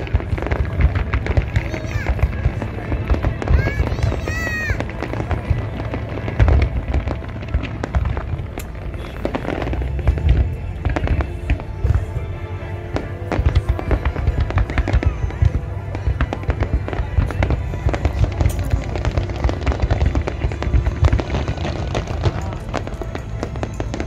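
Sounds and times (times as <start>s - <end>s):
fireworks booming and banging: 0.0s - 24.0s
music playing: 0.0s - 24.0s.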